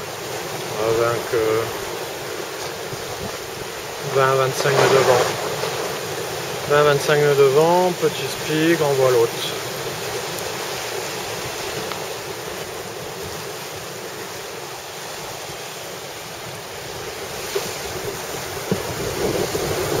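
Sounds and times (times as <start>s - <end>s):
water rushing in boat wake: 0.0s - 20.0s
wind buffeting microphone: 1.0s - 6.8s, 9.8s - 20.0s.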